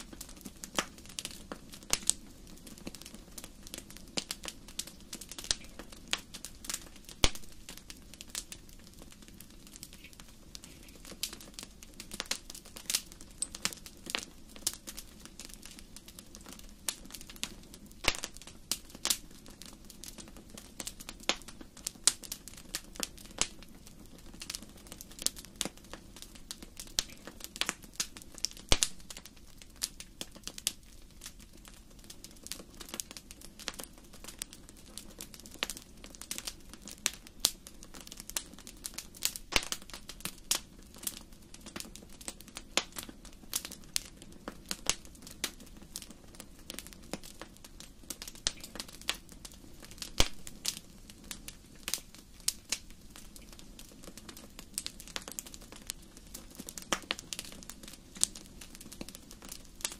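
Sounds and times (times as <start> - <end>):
low rumble of flames: 0.0 - 59.9
wood fire crackling: 0.0 - 59.9.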